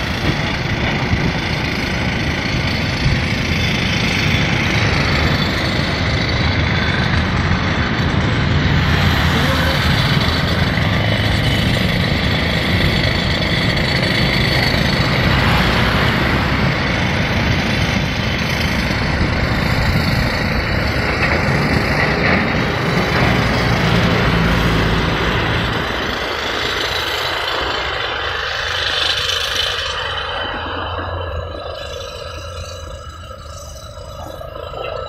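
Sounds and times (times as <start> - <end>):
construction machinery engines: 0.0 - 35.0
road traffic: 0.0 - 35.0.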